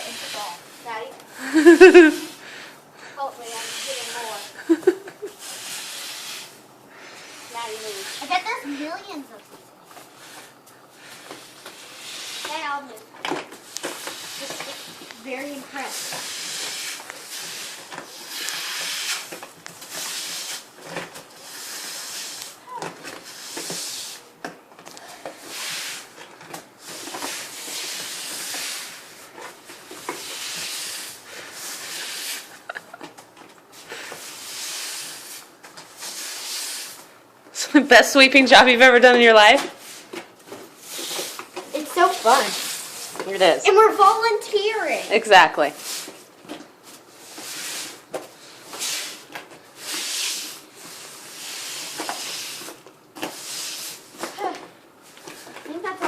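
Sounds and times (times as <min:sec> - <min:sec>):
broom sweeping: 0:00.0 - 0:24.4, 0:25.0 - 0:56.0.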